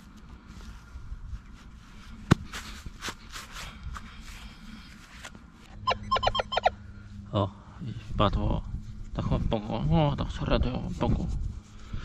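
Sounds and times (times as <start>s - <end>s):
rustling and scraping of soil: 0.0s - 5.8s, 7.9s - 12.0s.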